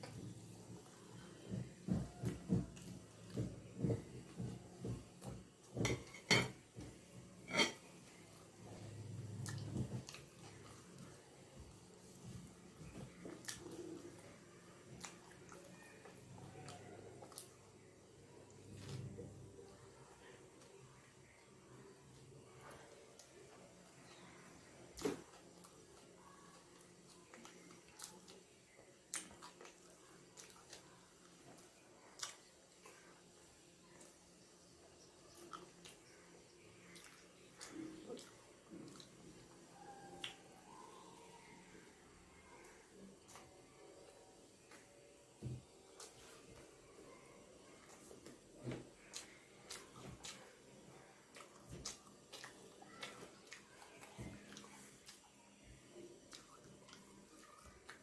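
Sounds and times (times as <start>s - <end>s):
faint chewing: 0.0s - 58.0s.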